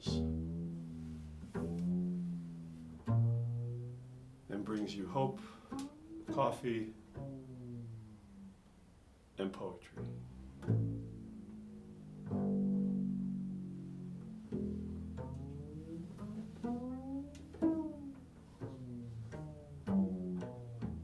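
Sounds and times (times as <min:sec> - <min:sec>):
plucked low string instrument: 0:00.0 - 0:21.0.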